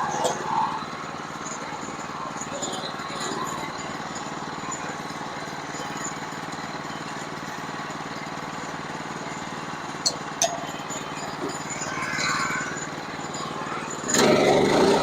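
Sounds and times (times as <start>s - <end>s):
small sawmill engine running: 0.0s - 15.0s.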